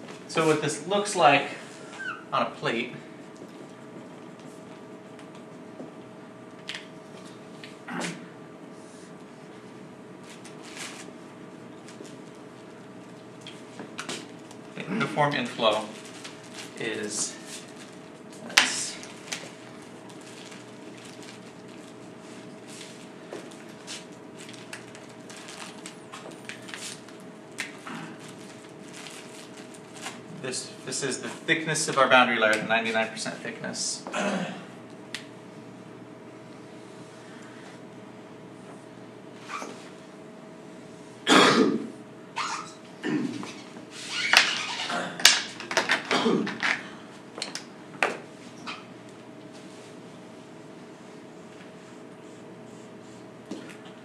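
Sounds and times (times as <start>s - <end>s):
room hum: 0.0s - 54.0s.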